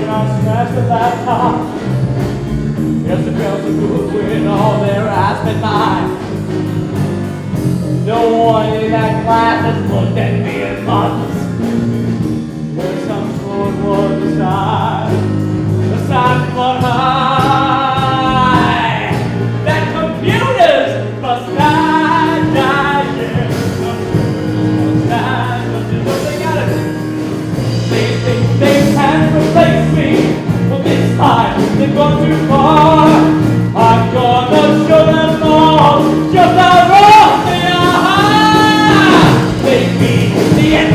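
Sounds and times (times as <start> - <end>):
instrumental accompaniment: 0.0 - 40.9
person singing with vibrato: 2.8 - 6.2, 7.9 - 11.6, 12.8 - 26.9, 27.7 - 40.9.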